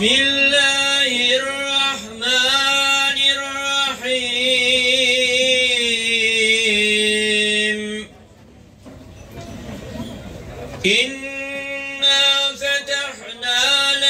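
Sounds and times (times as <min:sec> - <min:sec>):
man chanting recitation: 0:00.0 - 0:08.2, 0:10.8 - 0:14.0.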